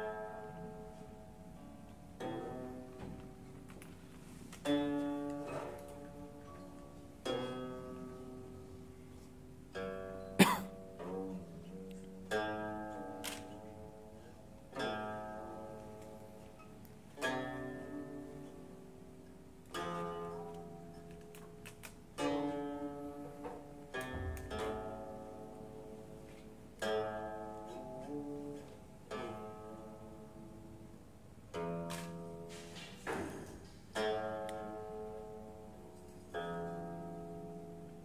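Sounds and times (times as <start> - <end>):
plucked string instrumental music: 0.0 - 38.0.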